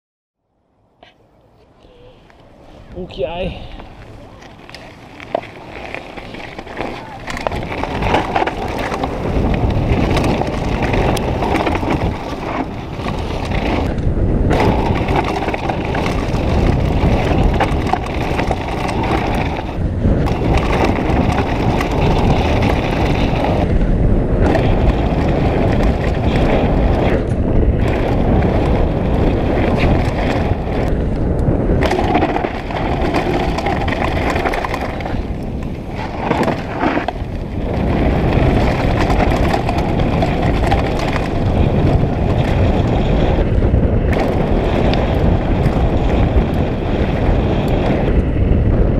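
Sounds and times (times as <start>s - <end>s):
bike tyres rumbling over gravel: 2.6s - 48.9s
bike knocking and rattling: 2.9s - 48.9s.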